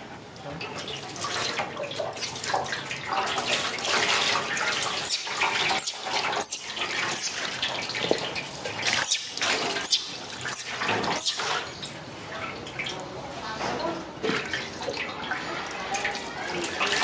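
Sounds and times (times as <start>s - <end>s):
water splashing into metal basin: 0.6s - 13.1s, 14.1s - 17.0s.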